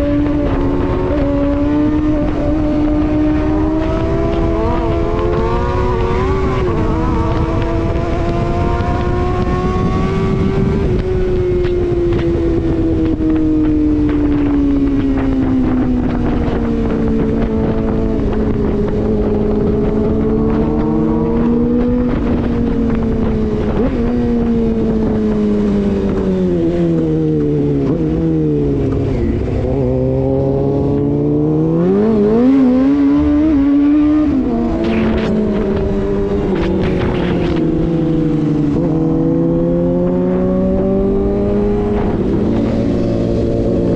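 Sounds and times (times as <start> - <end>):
motorcycle engine: 0.0 - 43.9
wind on microphone: 0.0 - 43.9.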